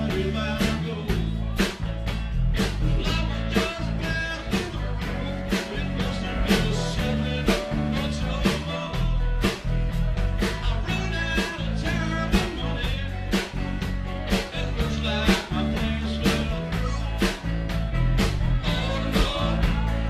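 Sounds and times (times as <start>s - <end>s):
bass guitar: 0.0s - 20.0s
drum kit beat: 0.0s - 20.0s
electric guitar: 0.0s - 20.0s.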